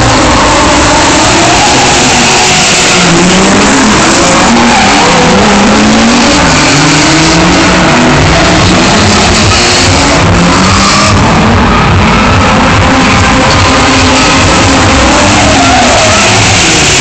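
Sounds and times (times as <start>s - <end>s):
car engine revving: 0.0s - 17.0s
tyres sliding and squealing: 0.0s - 17.0s.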